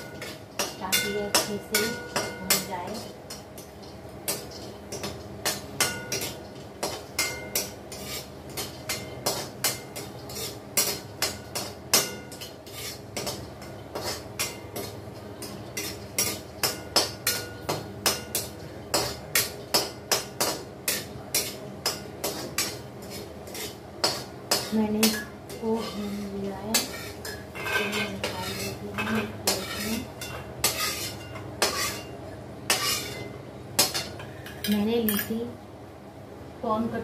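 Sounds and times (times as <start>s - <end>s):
metal spoon scraping metal pan: 4.3s - 20.2s, 20.9s - 32.1s, 32.7s - 35.4s.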